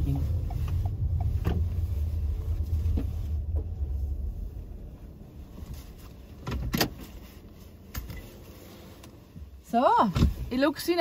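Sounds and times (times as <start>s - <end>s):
car rumbling inside cabin: 0.0s - 11.0s.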